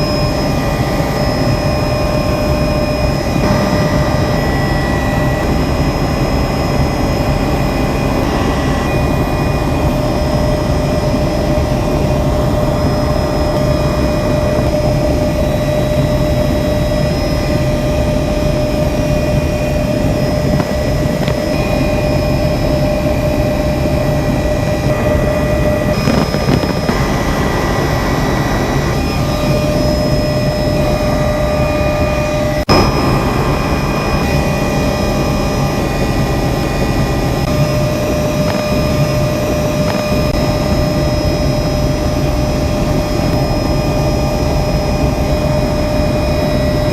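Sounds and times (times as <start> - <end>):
helicopter cabin whine and rumble: 0.0 - 46.9.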